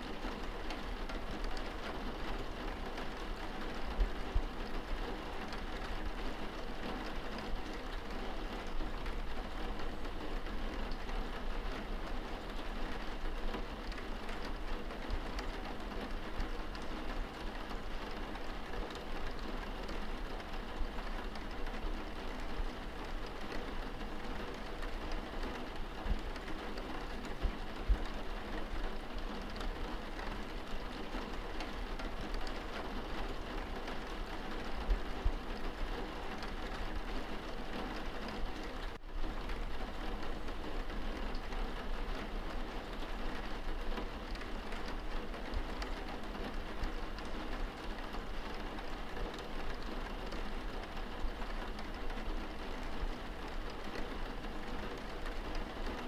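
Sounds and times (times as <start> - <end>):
rain hissing on window glass: 0.0 - 56.0.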